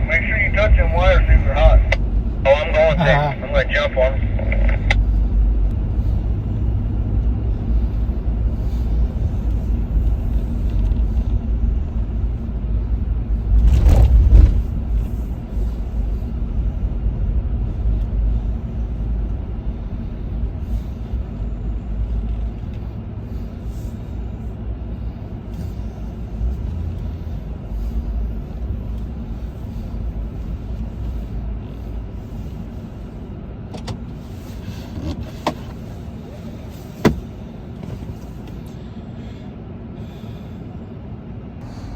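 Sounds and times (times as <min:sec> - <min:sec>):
low engine rumble: 0:00.0 - 0:41.9.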